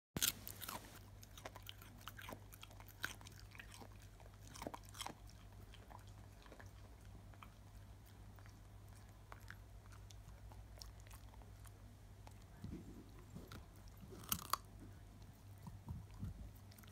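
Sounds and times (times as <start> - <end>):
dog crunching a carrot: 0.2 - 12.6, 13.2 - 16.9
steady low hum: 0.2 - 16.9.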